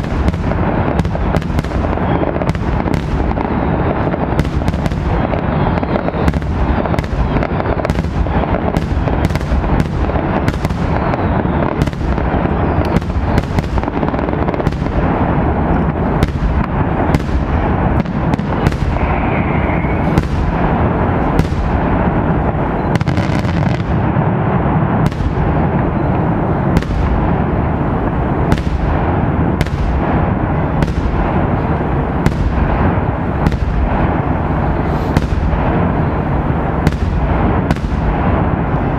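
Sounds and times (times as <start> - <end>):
crackling rumble: 0.0 - 38.9
fireworks bangs: 0.0 - 38.9.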